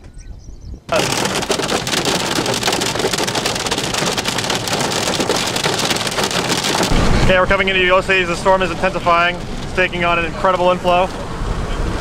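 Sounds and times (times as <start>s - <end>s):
heavy rain pelting down: 0.9s - 11.2s.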